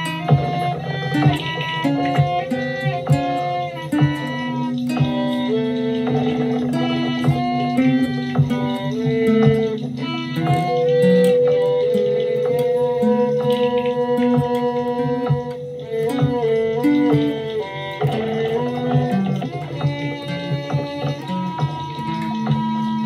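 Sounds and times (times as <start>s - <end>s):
fingerpicked acoustic guitar: 0.0s - 23.0s.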